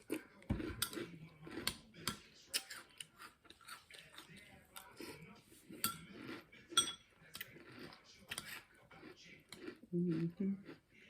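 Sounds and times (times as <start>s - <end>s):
chewing crunchy cereal: 0.0s - 11.0s.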